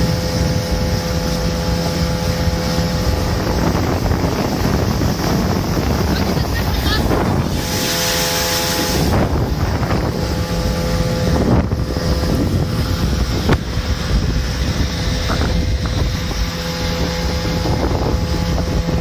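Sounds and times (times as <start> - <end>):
outboard motor running: 0.0 - 19.0
wind buffeting microphone: 0.0 - 19.0.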